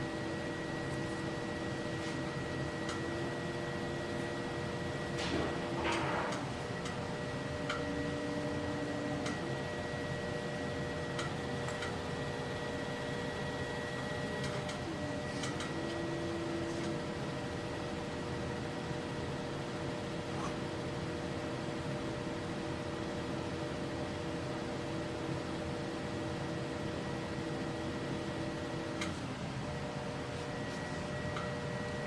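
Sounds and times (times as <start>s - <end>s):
potter's wheel motor hum: 0.0s - 32.0s.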